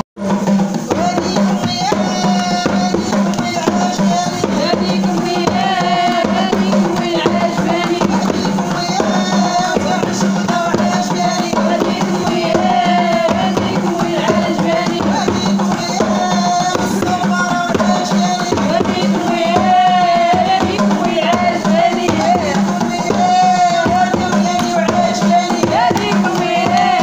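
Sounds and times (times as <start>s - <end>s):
hand drums beating: 0.2s - 27.0s.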